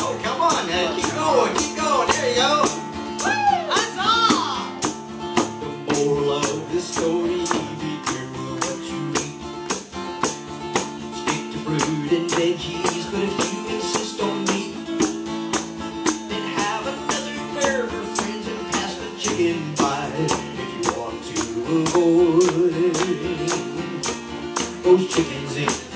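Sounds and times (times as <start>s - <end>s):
guitar chords: 0.0s - 25.9s
percussion beat: 0.0s - 25.9s.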